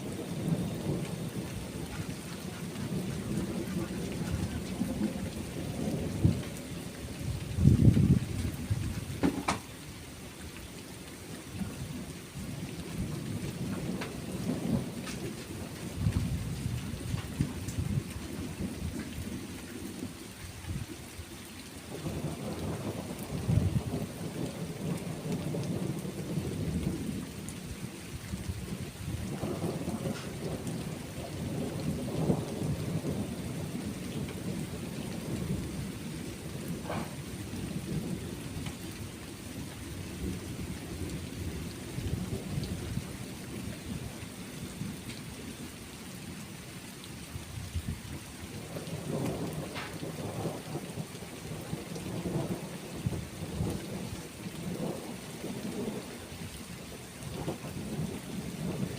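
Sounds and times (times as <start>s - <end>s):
low rolling thunder: 0.0s - 9.8s, 11.5s - 20.9s, 21.9s - 45.4s, 47.3s - 56.6s, 57.2s - 58.9s
steady rain: 0.0s - 58.9s.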